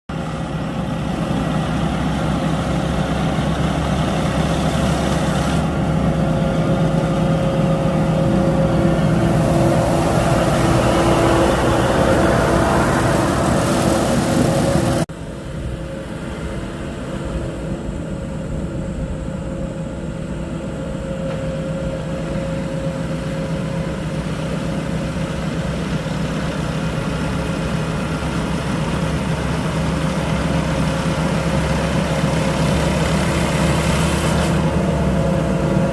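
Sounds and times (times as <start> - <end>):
harvester engine running: 0.1 - 35.9
whirring machinery: 0.4 - 35.9.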